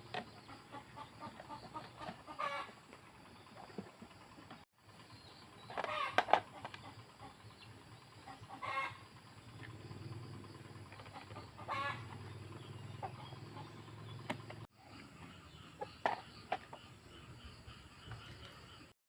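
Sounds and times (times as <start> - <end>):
chickens clucking: 0.0 - 4.6, 5.5 - 18.9
steady low hum: 0.0 - 18.9.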